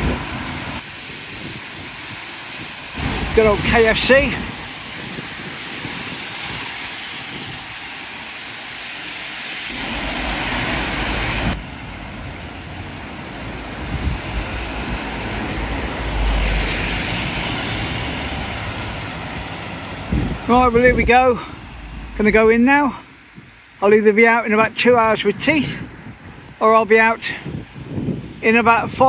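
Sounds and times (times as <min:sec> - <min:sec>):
traffic on wet street: 0:00.0 - 0:29.0.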